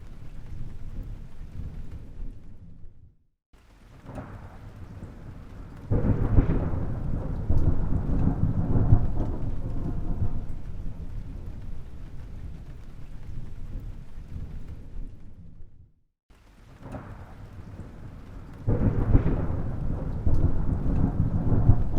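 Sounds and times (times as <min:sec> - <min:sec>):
thunder rumbling and clapping: 0:00.0 - 0:03.1, 0:03.9 - 0:15.9, 0:16.6 - 0:21.9.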